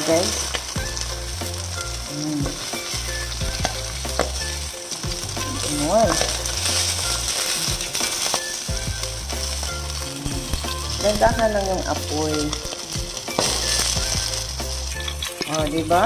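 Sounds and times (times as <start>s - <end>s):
fish sizzling in frying pan: 0.0s - 16.0s.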